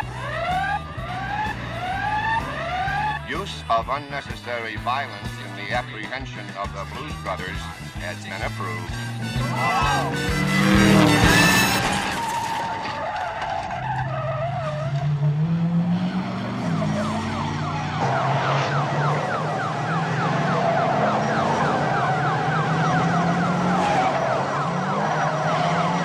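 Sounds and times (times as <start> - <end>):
police sirens: 0.0 - 4.3, 6.9 - 26.0
car engines revving: 0.0 - 26.0.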